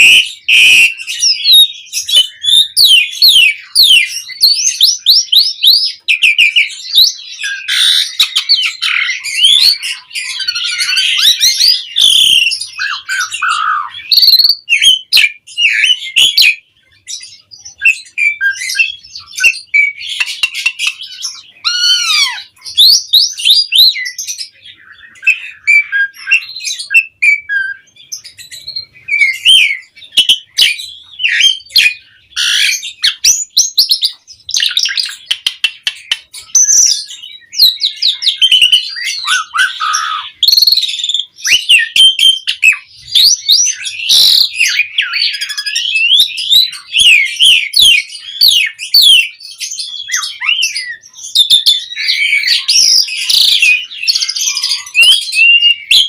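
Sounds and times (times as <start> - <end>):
starling singing: 0.0 - 56.0.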